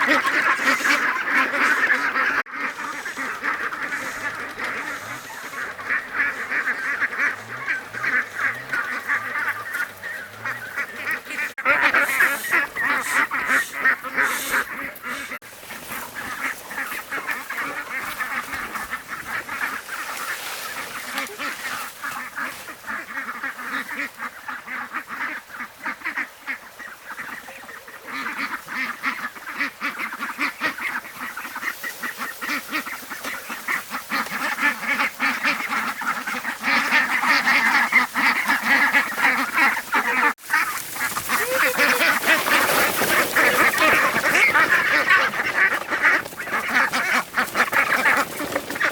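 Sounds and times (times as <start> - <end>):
ducks quacking: 0.0 - 48.9.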